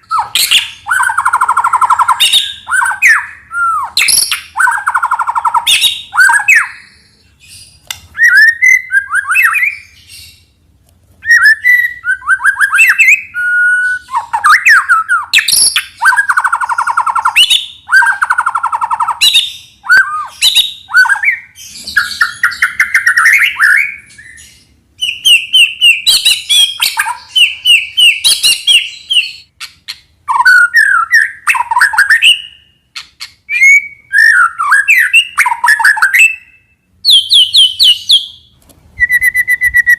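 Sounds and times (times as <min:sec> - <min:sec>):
bird singing whistles and trills: 0:00.0 - 0:10.5, 0:11.2 - 0:39.9.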